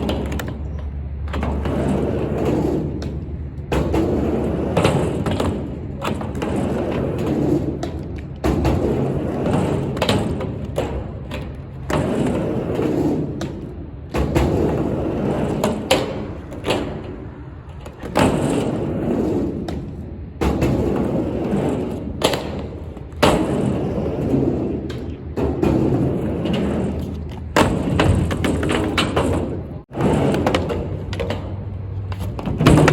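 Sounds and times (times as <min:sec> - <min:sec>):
skateboard thuds and clacks: 0:00.0 - 0:32.9
skateboard wheels rumbling: 0:00.0 - 0:32.9.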